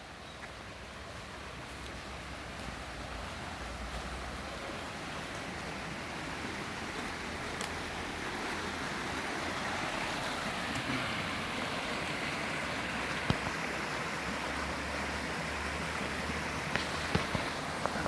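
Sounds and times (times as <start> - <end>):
waterfall rushing: 1.0 - 18.0.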